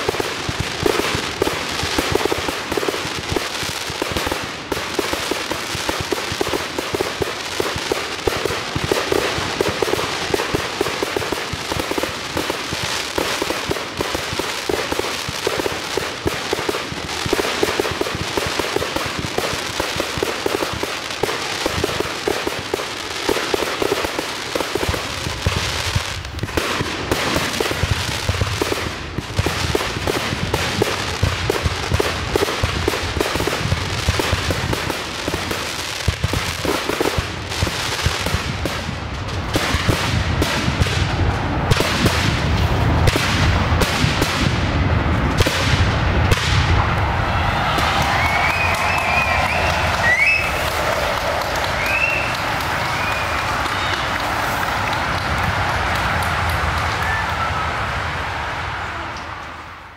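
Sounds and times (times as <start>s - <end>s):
deep fireworks booms: 0.0s - 58.8s
fireworks bangs and crackling: 0.0s - 59.9s.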